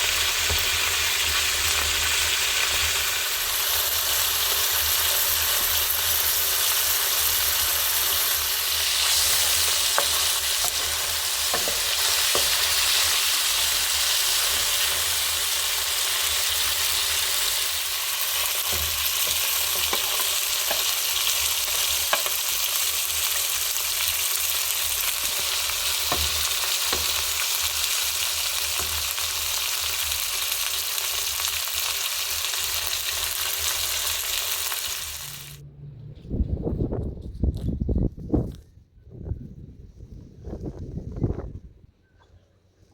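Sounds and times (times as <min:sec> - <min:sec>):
food frying in hot oil: 0:00.0 - 0:35.6.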